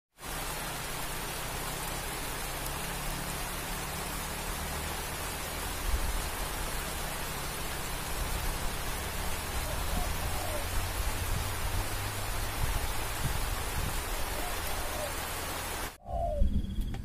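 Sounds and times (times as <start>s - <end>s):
rain falling: 0.1s - 16.0s.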